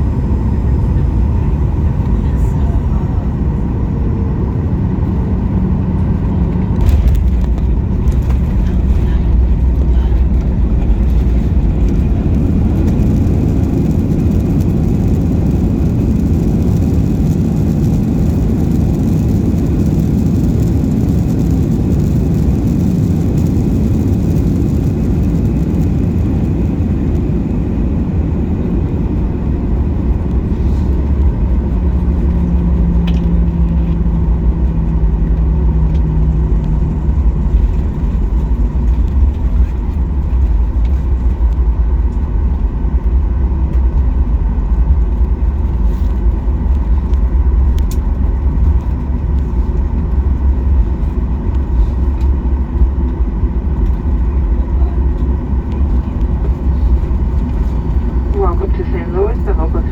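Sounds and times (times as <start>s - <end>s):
jet engines and wheels rumbling: 0.0s - 59.9s.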